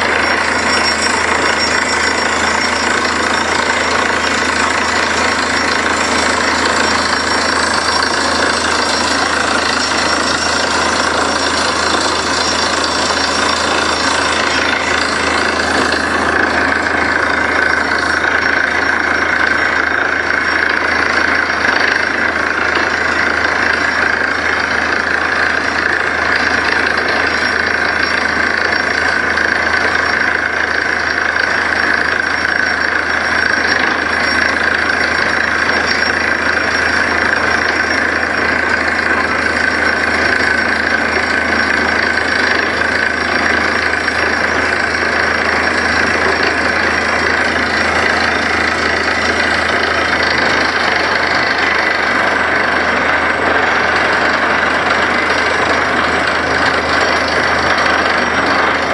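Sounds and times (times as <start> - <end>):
drilling rig engine: 0.0 - 58.9.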